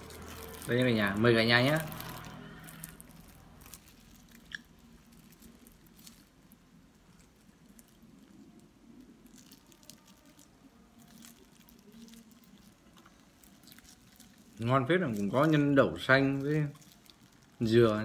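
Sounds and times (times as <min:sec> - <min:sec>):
faint chewing: 0:00.0 - 0:18.0
plastic wrapper crinkling: 0:00.0 - 0:18.0.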